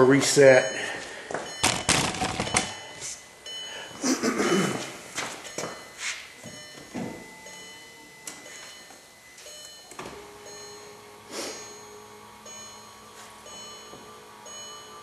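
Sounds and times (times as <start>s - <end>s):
dashboard warning chimes: 0.0s - 15.0s
low steady hum: 0.0s - 15.0s.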